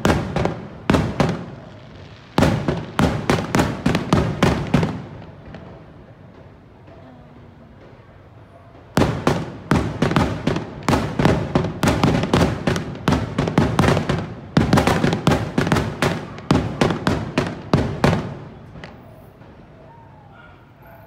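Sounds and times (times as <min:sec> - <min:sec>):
fireworks bursting: 0:00.0 - 0:20.8.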